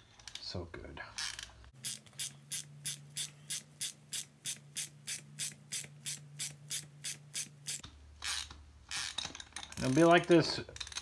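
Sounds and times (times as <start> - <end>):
ratchet wrench clicking: 1.2 - 10.2.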